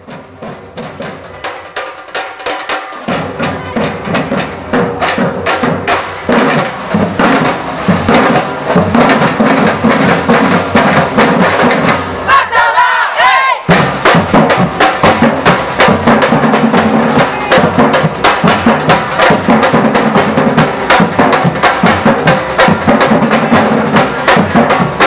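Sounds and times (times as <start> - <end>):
drum band playing: 0.0 - 25.0.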